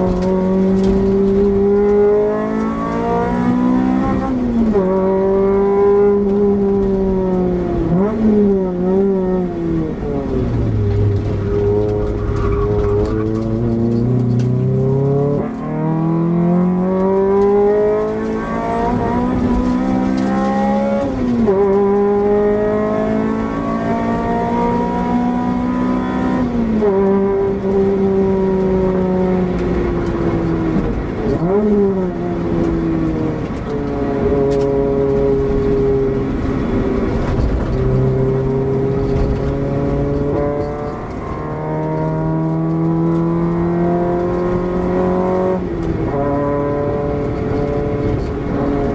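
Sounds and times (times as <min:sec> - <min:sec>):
car engine revving: 0:00.0 - 0:48.9
road and wind noise: 0:00.0 - 0:48.9.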